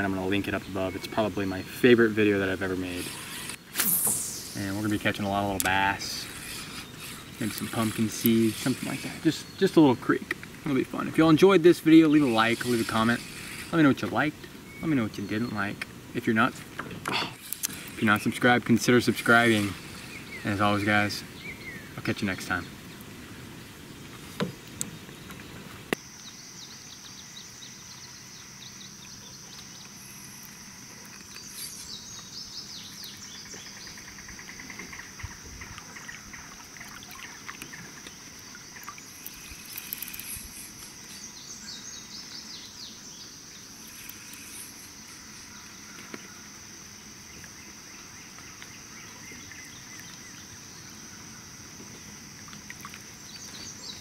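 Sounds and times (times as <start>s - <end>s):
birds chirping: 0.0s - 54.0s
insects droning: 0.0s - 54.0s.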